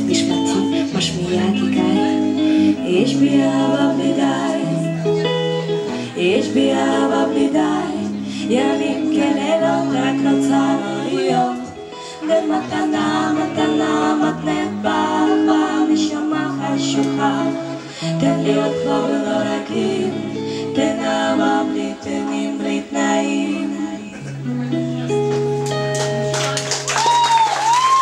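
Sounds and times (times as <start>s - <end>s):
women singing: 0.0s - 24.3s
musical accompaniment: 0.0s - 28.0s.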